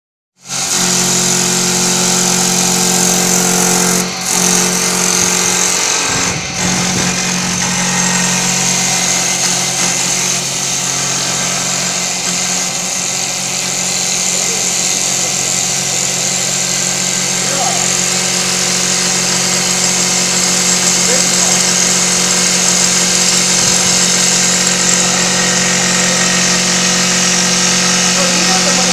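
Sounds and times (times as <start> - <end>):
wood lathe running: 0.4 - 28.9.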